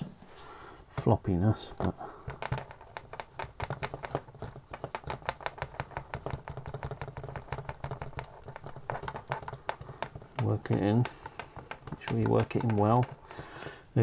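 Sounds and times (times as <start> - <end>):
plastic joint clicking: 1.8 - 13.3.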